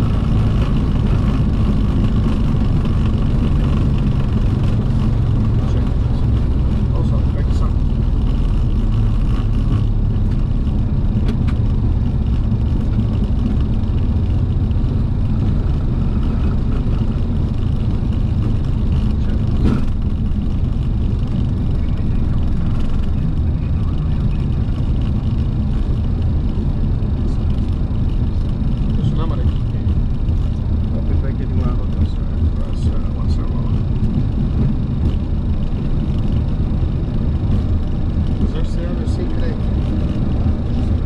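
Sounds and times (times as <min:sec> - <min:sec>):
jet engines rumbling: 0:00.0 - 0:41.0
wheels rolling on runway: 0:00.0 - 0:41.0.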